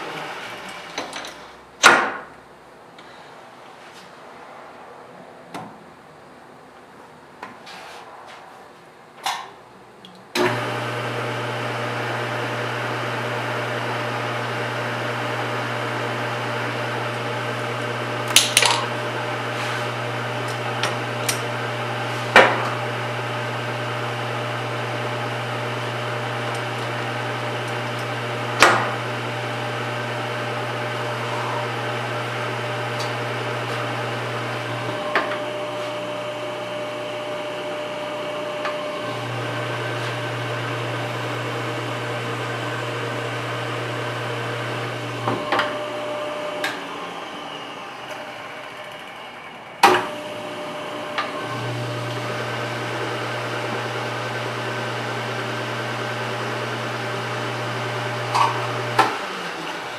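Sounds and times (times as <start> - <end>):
metal lathe motor hum: 10.4 - 59.9.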